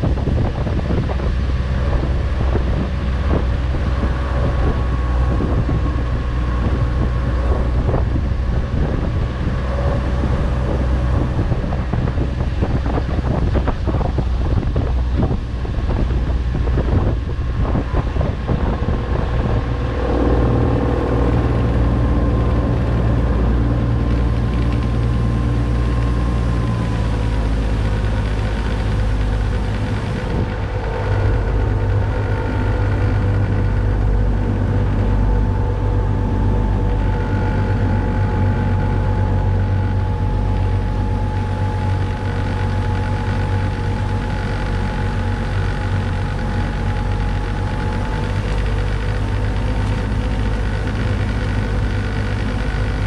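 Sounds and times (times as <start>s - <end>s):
motorboat engine running: 0.0s - 53.0s
wind on microphone: 0.0s - 53.0s.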